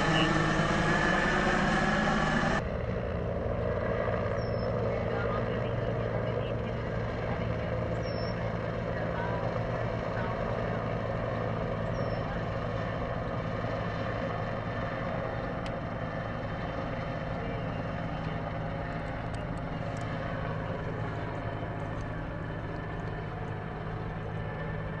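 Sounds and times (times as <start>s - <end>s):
distant helicopter drone: 0.0s - 25.0s.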